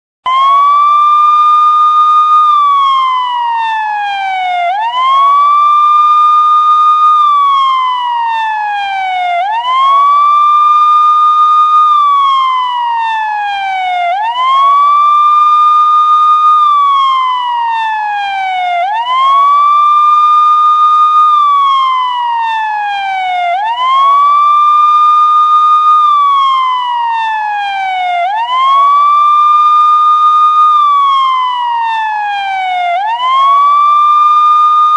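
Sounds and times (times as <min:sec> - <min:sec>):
police siren wailing: 0:00.3 - 0:34.9.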